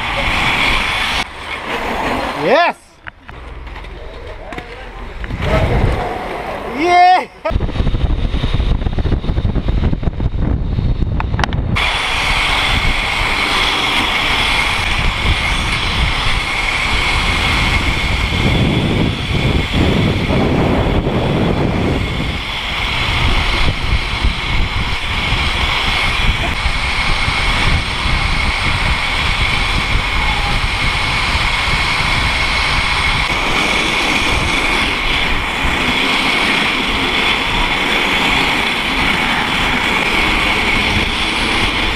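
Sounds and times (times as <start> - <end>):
skate wheels rolling on asphalt: 0.0 - 41.9
steady high whine: 0.0 - 41.9
wind buffeting microphone: 4.8 - 6.8, 7.4 - 41.9.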